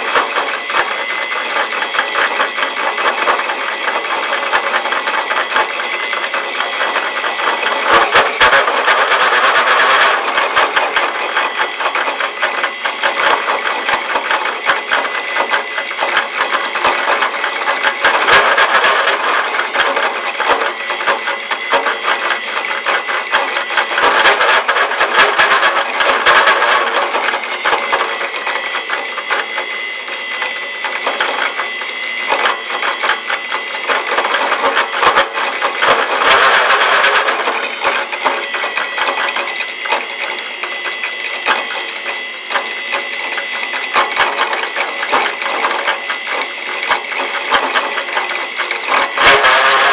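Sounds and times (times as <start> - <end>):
metal lathe rattling and whining: 0.0 - 49.9.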